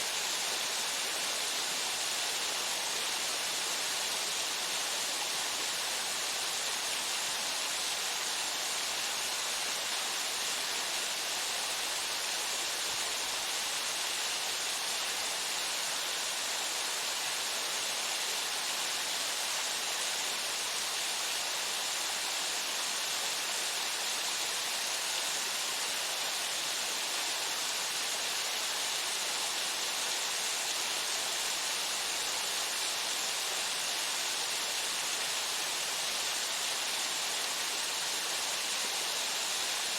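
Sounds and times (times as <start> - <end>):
waterfall pouring into pool: 0.0 - 39.9.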